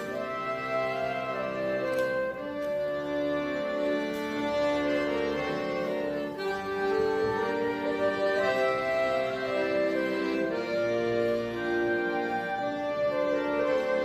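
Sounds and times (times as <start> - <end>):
accordion playing folk tune: 0.0 - 14.0.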